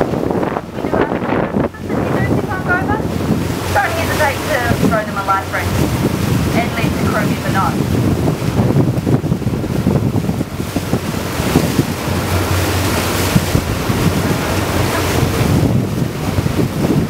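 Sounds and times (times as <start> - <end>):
boat engine hum: 0.0 - 17.0
water rushing: 0.0 - 17.0
wind buffeting microphone: 0.0 - 17.0.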